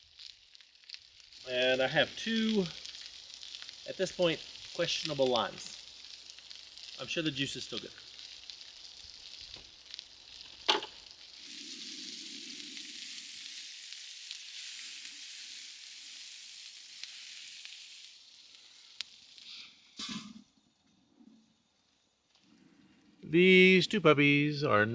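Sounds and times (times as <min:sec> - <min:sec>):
food sizzling on a griddle: 0:00.0 - 0:20.6.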